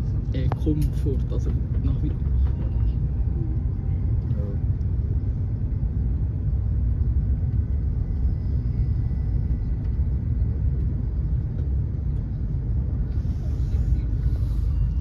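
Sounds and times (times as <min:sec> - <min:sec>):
train rumbling at speed: 0:00.0 - 0:15.0.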